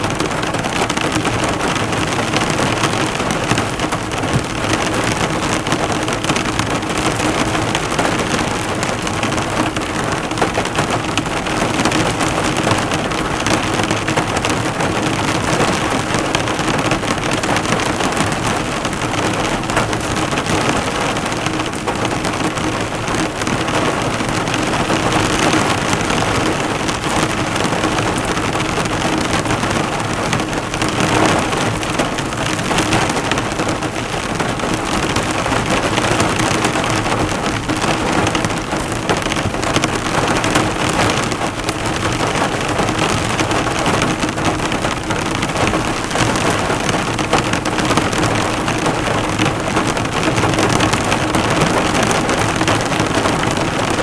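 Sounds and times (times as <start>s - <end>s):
heavy rain on a car: 0.0s - 54.0s.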